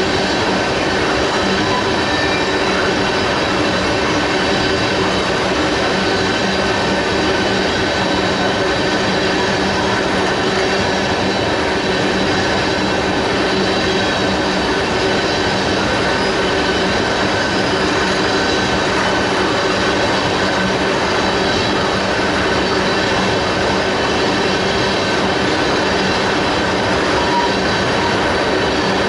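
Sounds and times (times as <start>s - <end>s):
metallic wheel squeal: 0.0s - 12.6s, 13.4s - 29.0s
freight train rumbling past: 0.0s - 29.0s.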